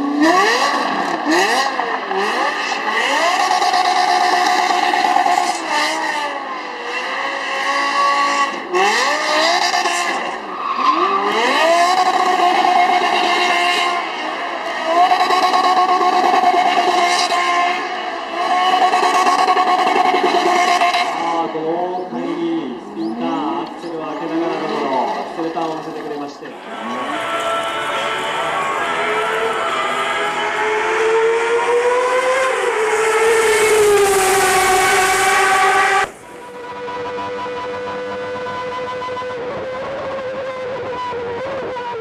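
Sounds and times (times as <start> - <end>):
racing car engine revving: 0.0 - 42.0.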